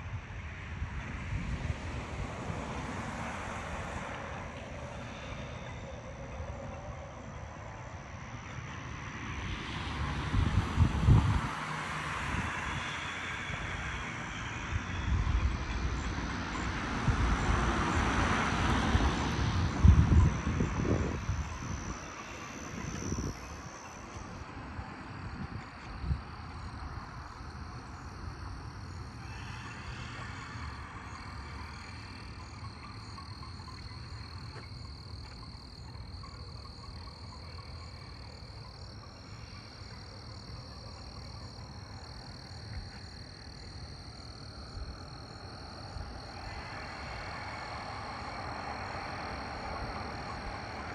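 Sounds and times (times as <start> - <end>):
low outdoor rumble: 0.0 - 50.9
insects trilling: 2.0 - 50.9.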